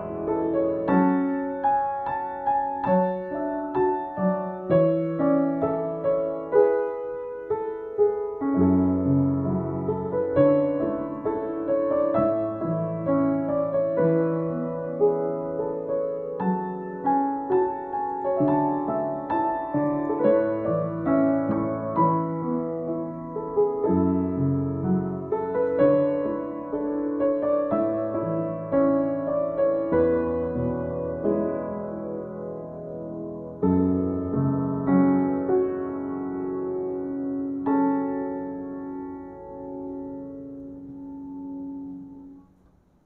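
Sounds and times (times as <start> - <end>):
upright piano chords: 0.0 - 43.0.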